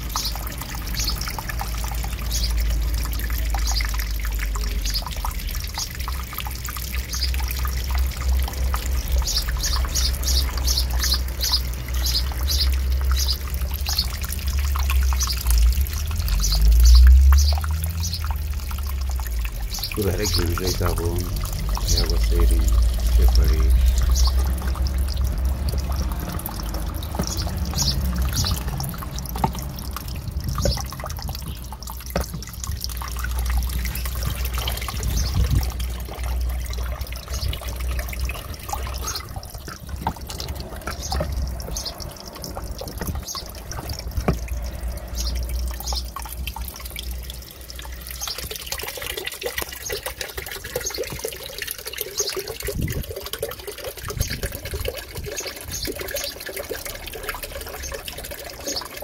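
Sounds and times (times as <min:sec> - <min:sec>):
fountain water splashing and trickling: 0:00.0 - 0:59.0
water drips and plinks: 0:00.0 - 0:59.0.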